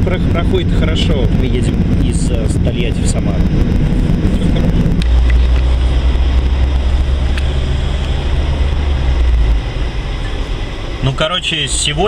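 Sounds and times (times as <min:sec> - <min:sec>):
engine and road drone: 0:00.0 - 0:12.0.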